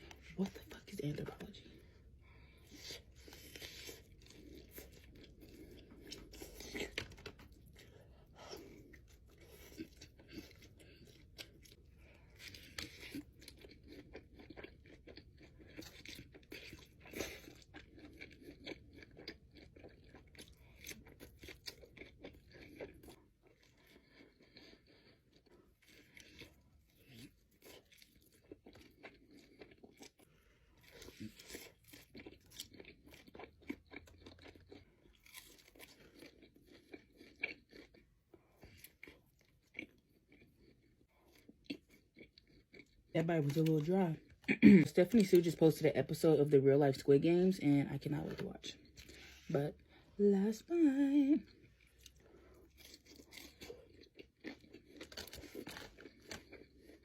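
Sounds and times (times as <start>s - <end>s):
person chewing and crunching food: 0.0s - 57.0s.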